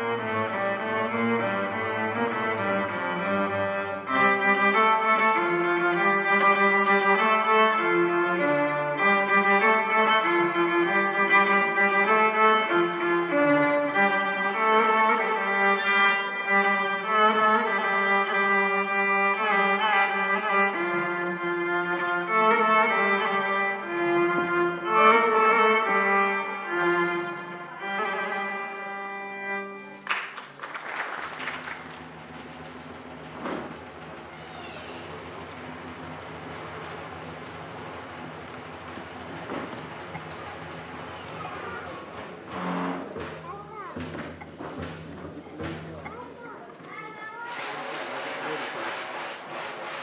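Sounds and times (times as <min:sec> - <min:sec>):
violin melody: 0:00.0 - 0:30.3, 0:31.7 - 0:43.8.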